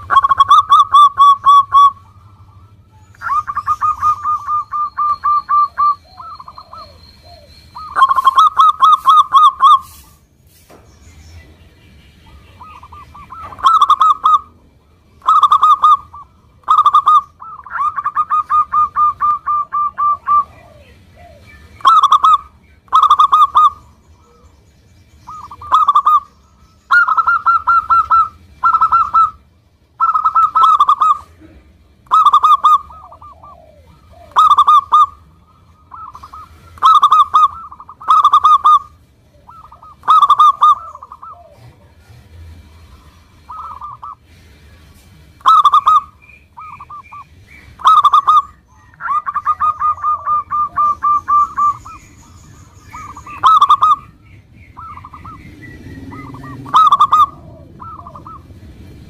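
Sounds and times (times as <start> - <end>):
dove cooing: 0.0 - 10.2, 12.2 - 24.6, 25.2 - 59.0.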